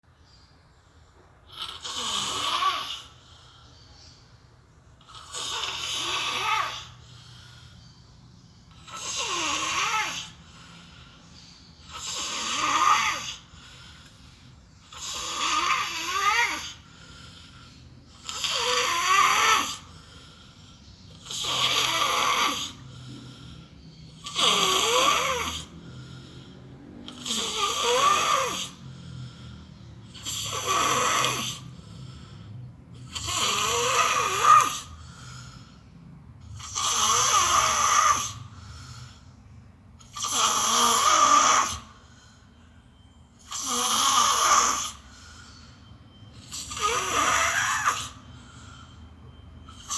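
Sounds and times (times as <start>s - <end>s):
quiet breathing: 0.1s - 33.3s, 34.1s - 40.3s, 40.9s - 49.9s
person snoring heavily: 1.5s - 3.8s, 5.0s - 8.0s, 8.8s - 14.2s, 14.8s - 35.8s, 36.4s - 39.3s, 40.0s - 42.2s, 43.4s - 49.9s.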